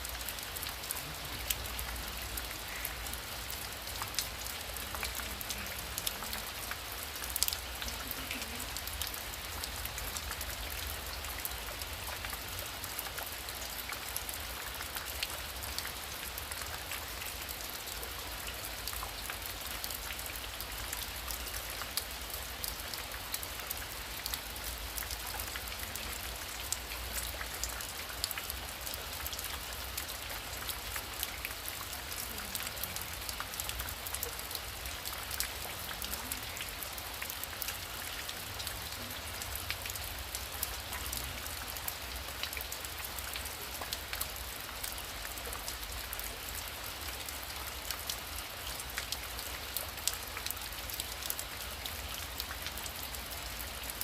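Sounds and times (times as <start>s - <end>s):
heavy rain patter: 0.0s - 54.0s.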